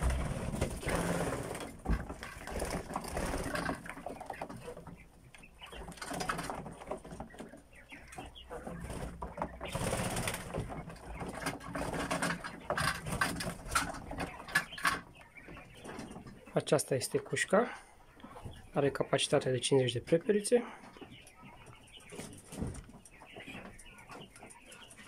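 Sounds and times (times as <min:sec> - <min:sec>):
quail chirping: 0:00.0 - 0:25.0.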